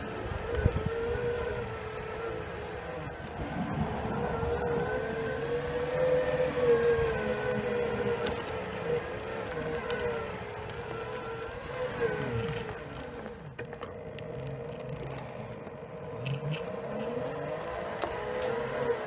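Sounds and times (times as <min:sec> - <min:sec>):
electric motors whining: 0:00.0 - 0:19.0
tyres rumbling on asphalt: 0:00.0 - 0:19.0.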